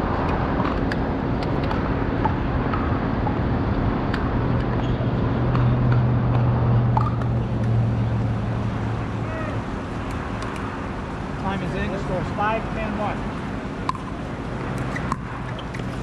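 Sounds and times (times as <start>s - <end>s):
distant road traffic rumble: 0.0s - 16.0s
low engine hum: 0.0s - 16.0s.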